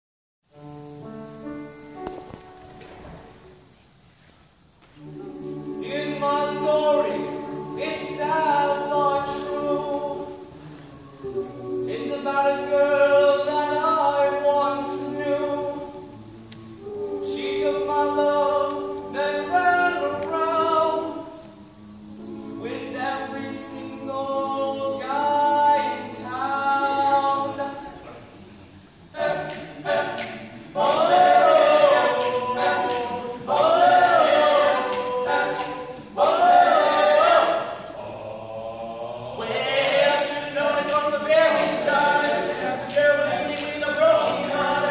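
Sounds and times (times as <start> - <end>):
male a cappella group singing: 5.0 - 28.4, 29.0 - 44.9.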